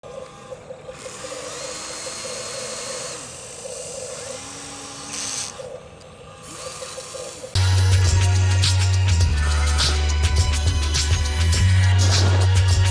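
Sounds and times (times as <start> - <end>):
small electric motors whining: 0.0 - 12.9.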